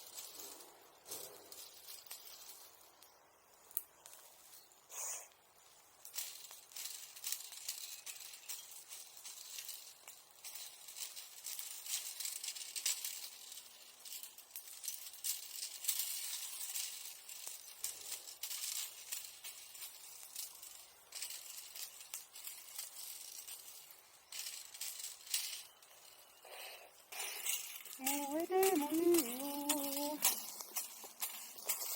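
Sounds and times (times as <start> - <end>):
bonfire embers crackling: 0.0 - 31.9.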